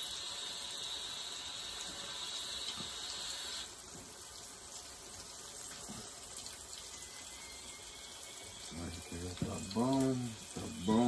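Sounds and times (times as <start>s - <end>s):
food sizzling in hot oil: 0.0s - 4.3s, 5.4s - 11.0s.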